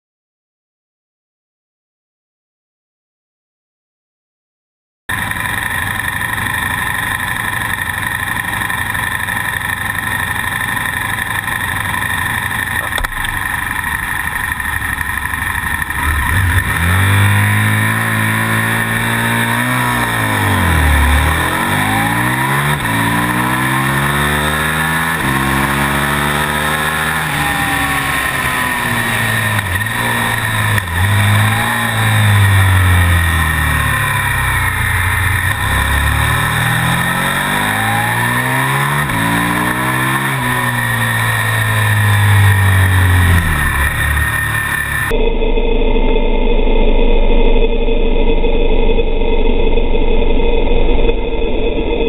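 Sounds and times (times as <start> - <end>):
motorcycle engine revving: 5.1 - 52.0.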